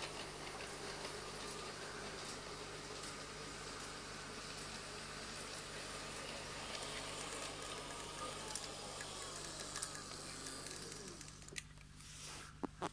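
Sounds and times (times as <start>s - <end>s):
wheels rumbling on rails: 0.0s - 11.5s
model train motor whine: 0.0s - 11.6s.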